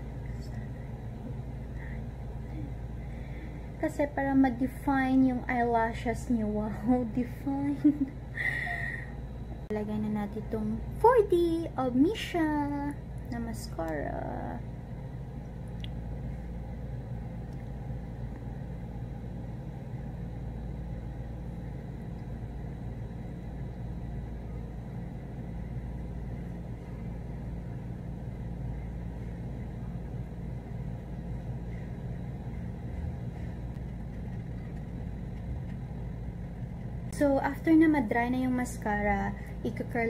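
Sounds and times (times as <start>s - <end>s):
low mechanical hum: 0.0s - 40.0s
low steady tones: 0.0s - 40.0s.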